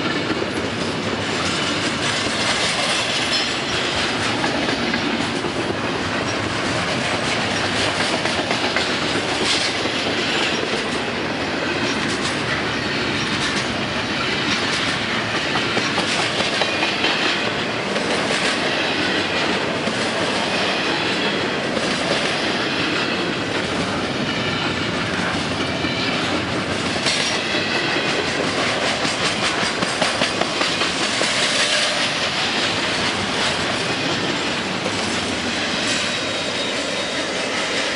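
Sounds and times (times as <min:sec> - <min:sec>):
freight cars rolling on rails: 0:00.0 - 0:37.9.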